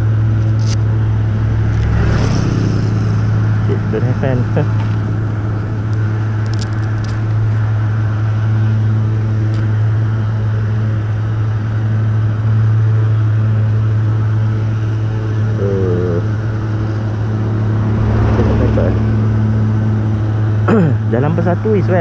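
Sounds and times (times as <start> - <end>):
motorcycle engine idling: 0.0 - 20.6.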